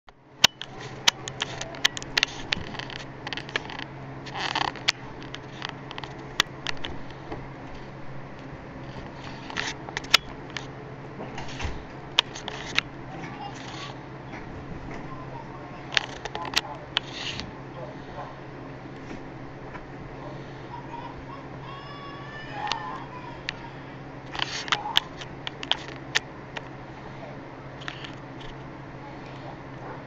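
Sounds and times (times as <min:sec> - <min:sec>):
steady low hum: 0:00.1 - 0:30.0.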